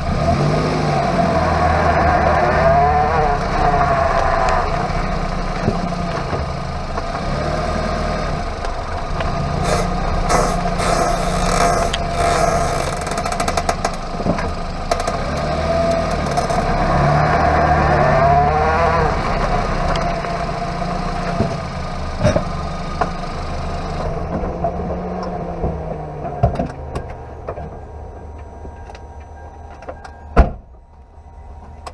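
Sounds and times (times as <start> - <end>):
tyre and road noise: 0.0 - 31.9.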